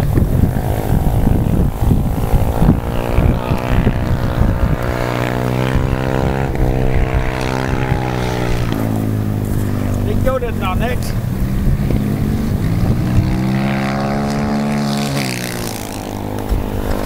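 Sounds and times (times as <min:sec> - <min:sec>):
motorcycle engine running: 0:00.0 - 0:17.0
wind rumbling on microphone: 0:00.0 - 0:17.0.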